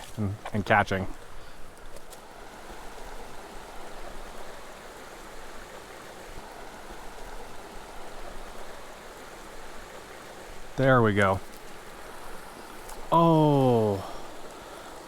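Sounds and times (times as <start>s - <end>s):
creek rushing over boulders: 0.0s - 15.0s.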